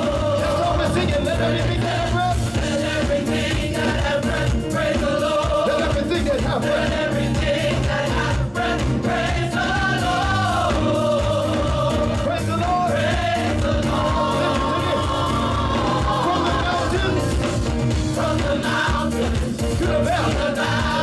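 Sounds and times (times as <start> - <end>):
choir singing: 0.0 - 21.0
instrumental backing: 0.0 - 21.0.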